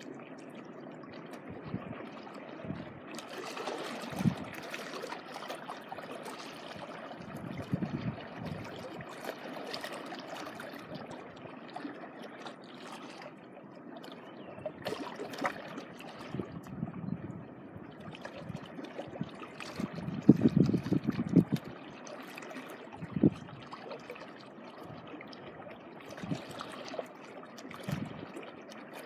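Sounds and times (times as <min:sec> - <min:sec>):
small waves washing on shore: 0:00.0 - 0:16.8, 0:17.8 - 0:29.0
water splashes: 0:00.0 - 0:17.0, 0:17.8 - 0:29.0.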